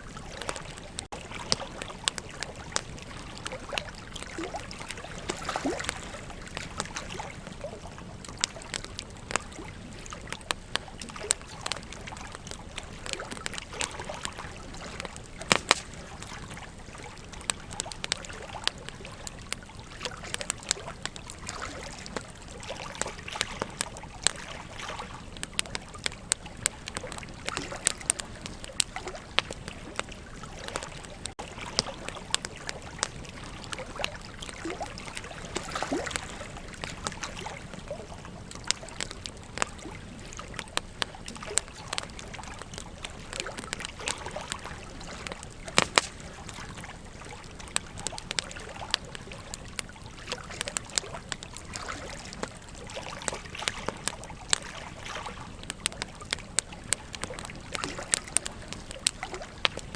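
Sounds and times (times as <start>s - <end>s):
river water running: 0.0s - 56.2s
campfire crackling: 0.0s - 59.9s.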